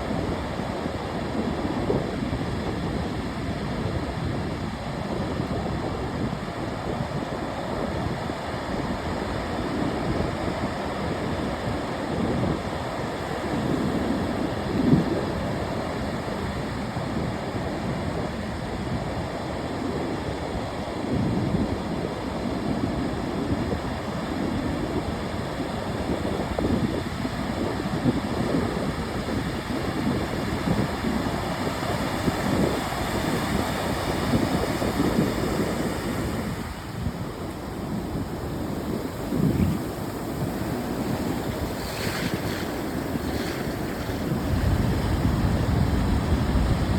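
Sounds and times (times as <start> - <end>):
waves breaking on a beach: 0.0 - 46.9
wind buffeting microphone: 0.0 - 46.9.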